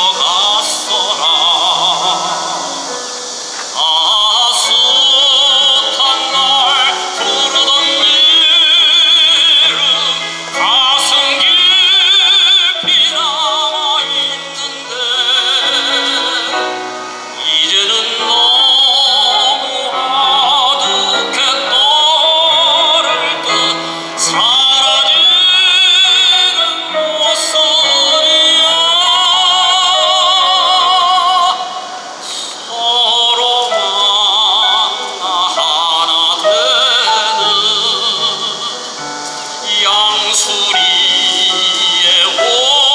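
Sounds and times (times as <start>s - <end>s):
grand piano: 0.0s - 42.9s
man singing operatically: 0.0s - 42.9s.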